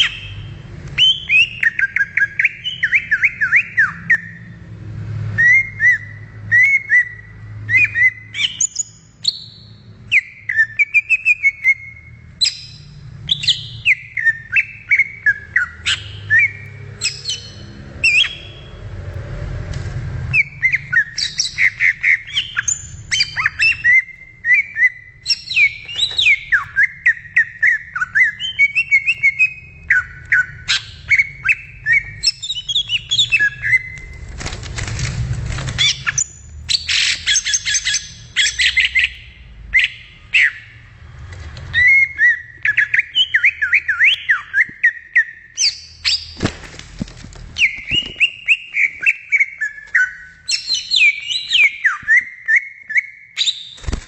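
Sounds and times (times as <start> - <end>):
bird singing chirps and whistles: 0.0 - 4.6, 5.4 - 18.8, 20.3 - 34.1, 35.8 - 40.8, 41.7 - 46.5, 47.6 - 54.0.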